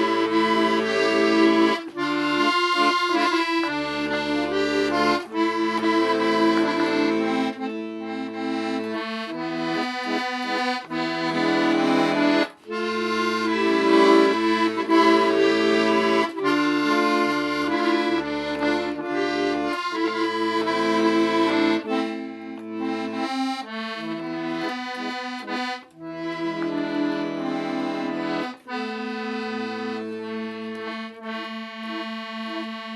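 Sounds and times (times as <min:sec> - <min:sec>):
accordion playing a tune: 0:00.0 - 0:32.9.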